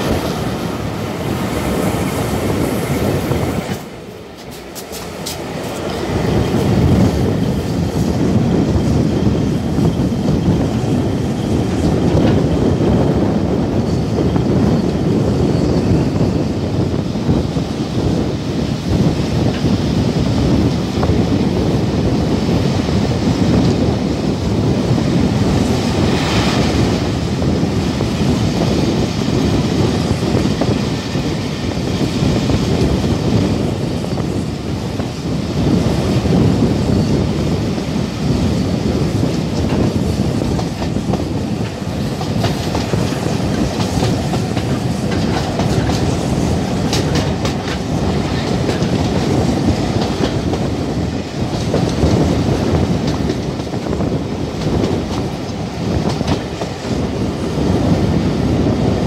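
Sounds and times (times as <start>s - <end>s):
train carriages rumbling on track: 0.0s - 59.0s
wind rush: 0.0s - 59.0s.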